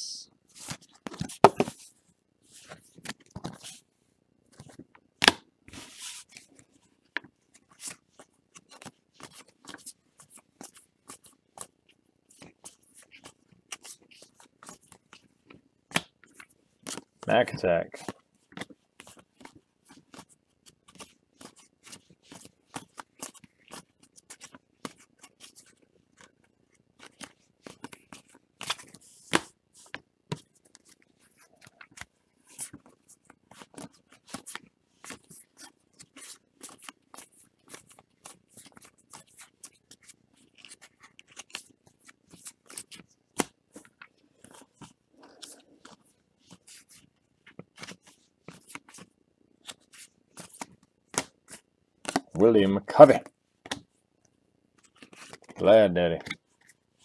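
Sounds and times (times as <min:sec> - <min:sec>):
cards being shuffled by hand: 0:00.5 - 0:03.9, 0:04.5 - 0:54.0, 0:54.8 - 0:57.0.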